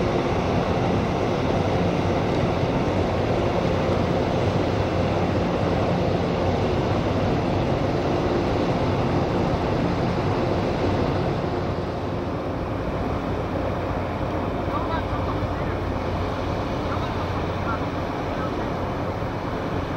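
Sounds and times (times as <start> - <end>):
ship engine drone: 0.0 - 19.9.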